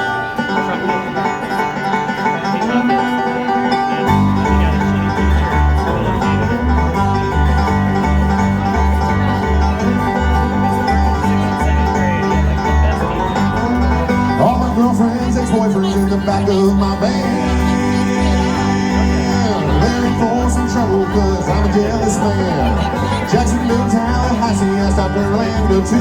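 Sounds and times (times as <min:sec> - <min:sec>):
banjo and guitar picking: 0:00.0 - 0:26.0
bluegrass band playing: 0:00.0 - 0:26.0
low bass notes: 0:00.0 - 0:26.0.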